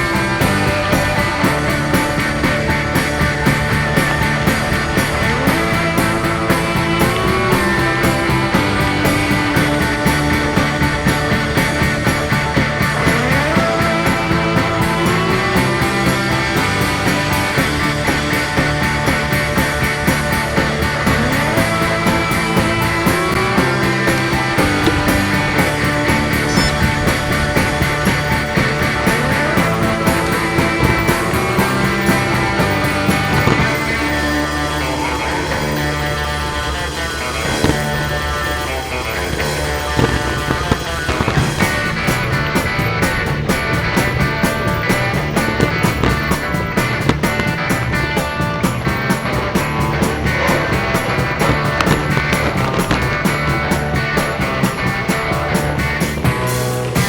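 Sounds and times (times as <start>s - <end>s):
drums: 0.0s - 57.0s
rock music: 0.0s - 57.0s
sliding guitar: 0.0s - 57.0s.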